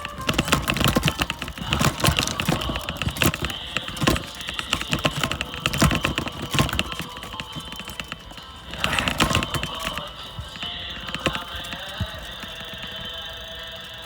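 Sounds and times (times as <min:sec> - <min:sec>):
dense clicking and rattling: 0:00.0 - 0:14.0.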